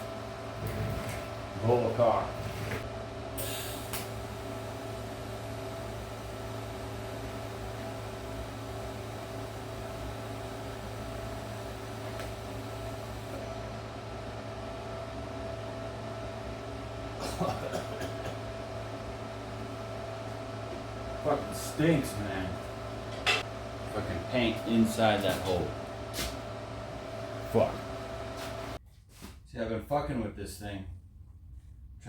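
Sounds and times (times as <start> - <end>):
machine hum with held tones: 0.0 - 28.8.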